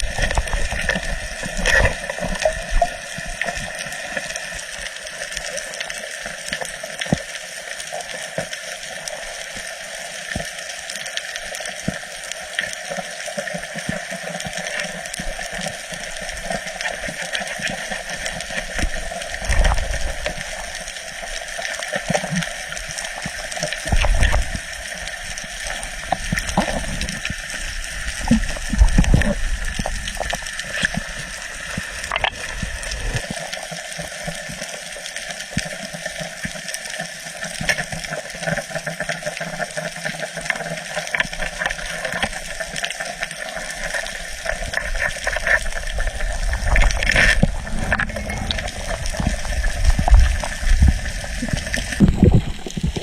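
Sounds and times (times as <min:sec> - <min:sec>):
sea water rushing and gurgling: 0:00.0 - 0:53.0.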